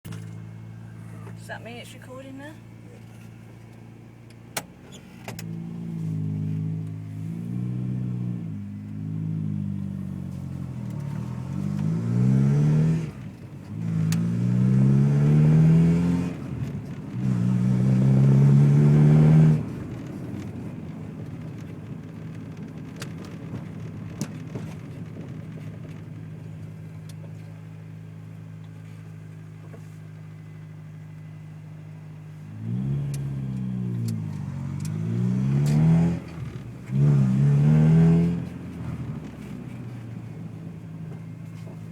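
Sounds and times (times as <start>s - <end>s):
car engine revving and idling: 0.1s - 41.9s.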